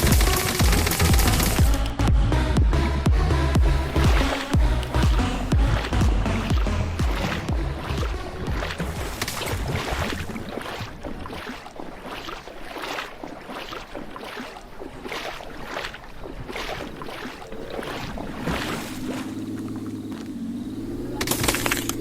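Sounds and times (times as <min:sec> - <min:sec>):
floodwater sloshing and splashing: 0:00.0 - 0:22.0.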